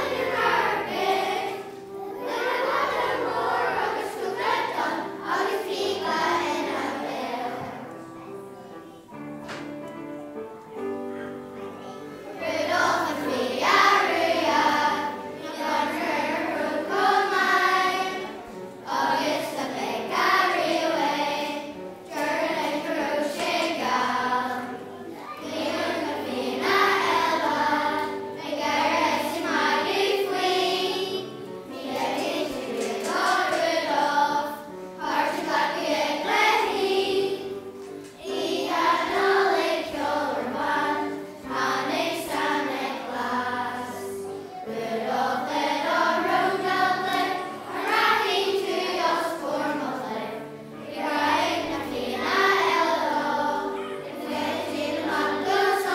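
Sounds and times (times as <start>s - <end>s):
children's choir singing: 0.0s - 55.9s
instrumental accompaniment: 0.0s - 55.9s.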